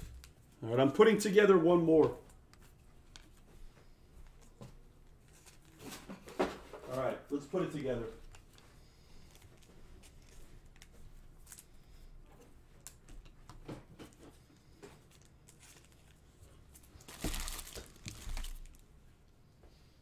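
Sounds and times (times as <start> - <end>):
rustling and crinkling handling: 1.3 - 19.3.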